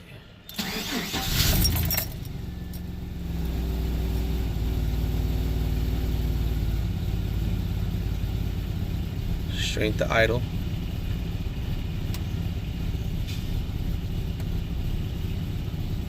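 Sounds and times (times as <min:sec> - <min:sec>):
truck engine idling: 0:00.5 - 0:16.0.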